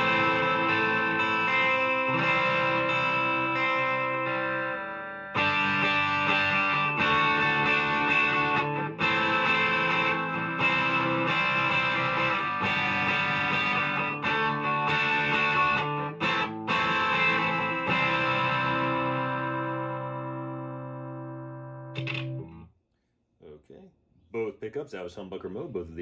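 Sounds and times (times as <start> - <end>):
overdriven electric guitar chords: 0.0 - 22.7.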